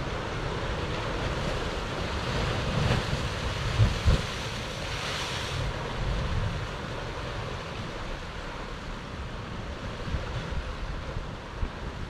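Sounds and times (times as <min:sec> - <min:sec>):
waves breaking on rocks: 0:00.0 - 0:11.2
wind rumbling on microphone: 0:00.0 - 0:12.0.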